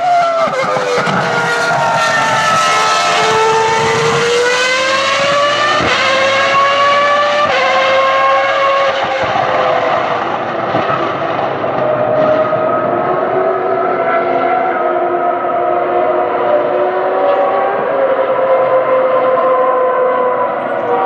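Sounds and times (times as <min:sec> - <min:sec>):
racing car engine accelerating: 0:00.0 - 0:21.0.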